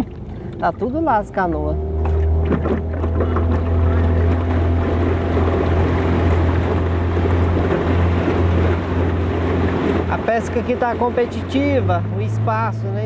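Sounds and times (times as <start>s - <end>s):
outboard motor running: 0.0s - 13.0s
water noise: 0.0s - 13.0s.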